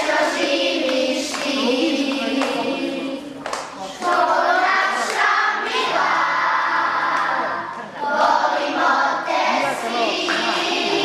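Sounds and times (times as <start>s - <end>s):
children singing: 0.0s - 11.0s.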